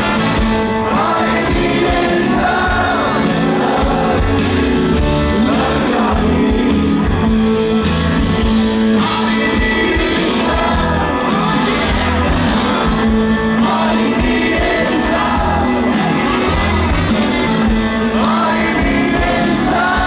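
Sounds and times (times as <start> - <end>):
rock music with singer: 0.0 - 20.0.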